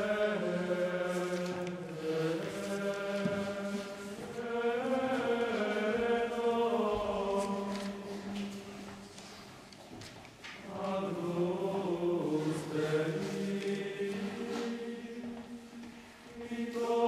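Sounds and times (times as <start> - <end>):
group chanting: 0.0 - 8.2, 10.6 - 15.6, 16.3 - 17.0.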